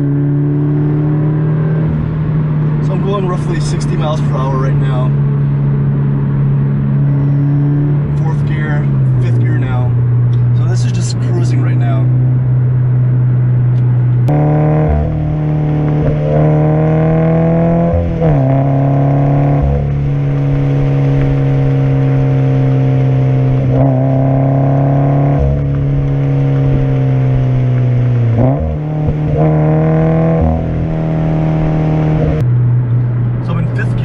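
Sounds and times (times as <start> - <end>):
car engine and exhaust drone: 0.0 - 34.0.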